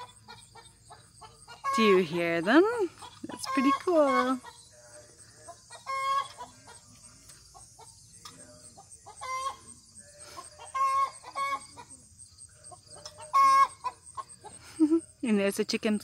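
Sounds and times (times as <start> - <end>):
hens clucking: 0.0 - 15.2.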